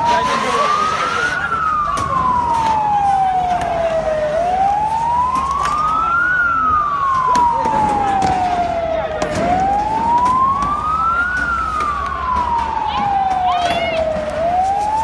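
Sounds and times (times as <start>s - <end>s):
crowd noise: 0.0s - 15.0s
police siren wailing: 0.0s - 15.0s.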